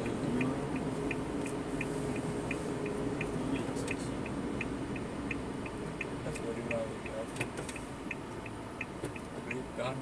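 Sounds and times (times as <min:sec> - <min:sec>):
light regular ticking: 0:00.0 - 0:10.0
vehicle hum from inside: 0:00.0 - 0:10.0.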